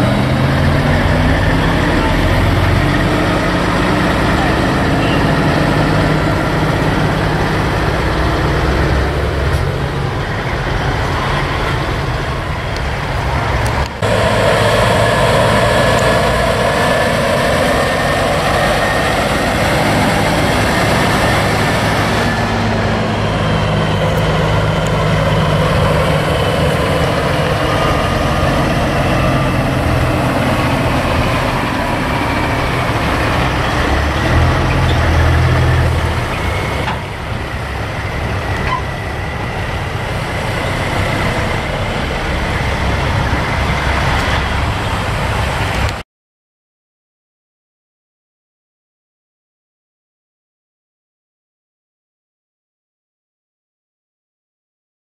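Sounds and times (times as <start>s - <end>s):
truck diesel engines running: 0.0s - 46.0s
tyre and road noise: 0.0s - 46.0s.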